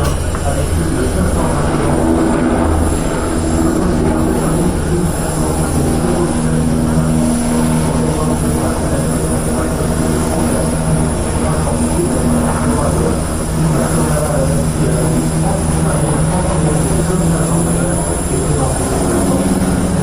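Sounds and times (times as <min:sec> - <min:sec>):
aircraft engine hum: 0:00.0 - 0:20.0.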